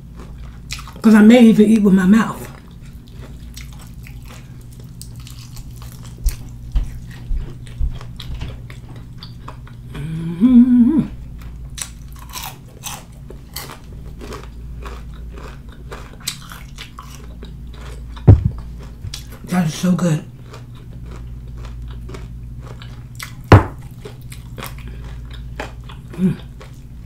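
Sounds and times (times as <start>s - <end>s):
chewing crispy chicken: 0.0s - 1.8s, 2.4s - 10.1s, 11.2s - 27.0s.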